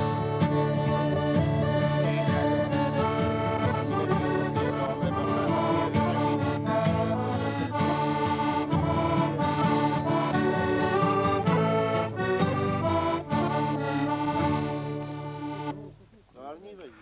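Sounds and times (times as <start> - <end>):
accordion playing folk tune: 0.0 - 16.0.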